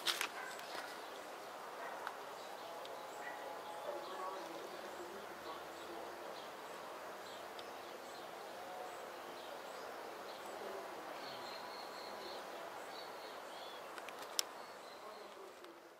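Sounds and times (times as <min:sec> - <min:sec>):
outdoor background hiss: 0:00.0 - 0:15.9.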